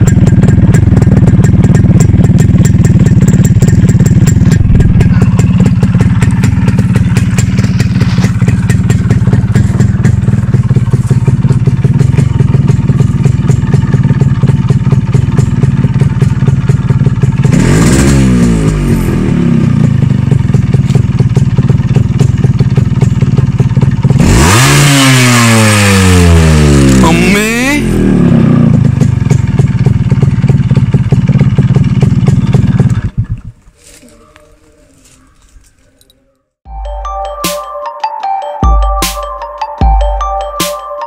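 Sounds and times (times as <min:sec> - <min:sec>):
engine revving: 0:00.0 - 0:33.4
two-stroke motorcycle engine idling: 0:00.0 - 0:33.6.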